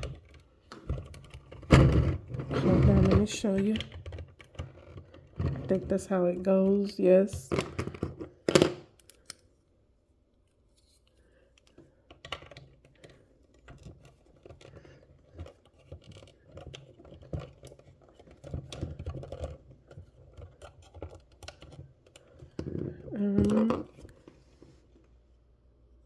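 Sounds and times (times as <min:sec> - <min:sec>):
plastic toy parts clicking and scraping: 0:00.0 - 0:09.5, 0:10.7 - 0:24.2.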